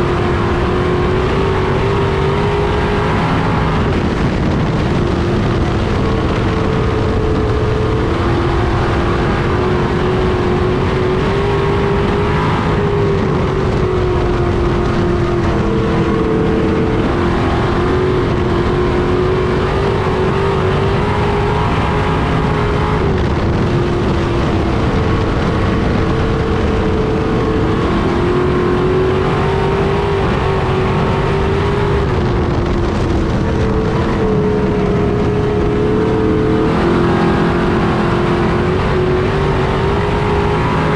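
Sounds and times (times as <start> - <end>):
race car engines: 0.0 - 40.9.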